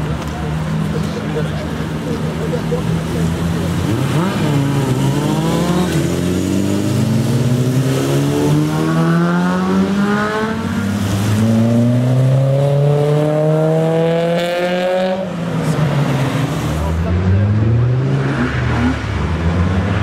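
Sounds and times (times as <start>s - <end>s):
car engine accelerating: 0.2s - 20.0s.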